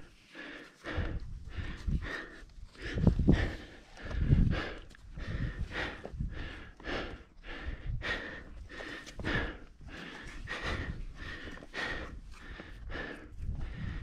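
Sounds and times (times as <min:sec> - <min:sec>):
heavy rapid breathing: 0:00.0 - 0:14.0.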